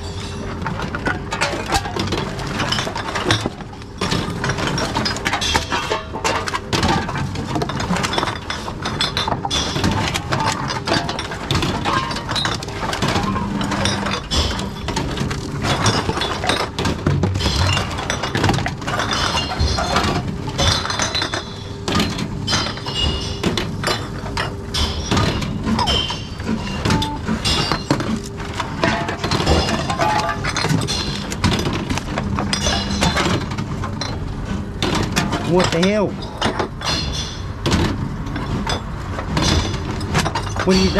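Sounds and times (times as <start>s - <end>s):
glass bottles clinking and breaking: 0.0s - 34.2s, 34.8s - 40.9s
steady machine hum: 0.0s - 40.9s.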